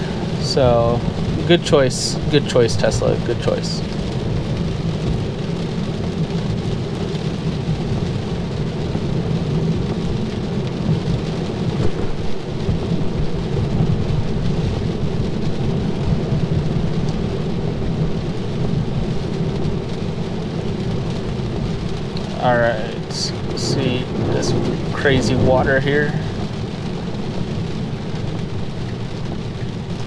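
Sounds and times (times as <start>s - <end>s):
heavy rain on a car: 0.0s - 30.0s
tyres hissing on a wet road: 0.0s - 30.0s.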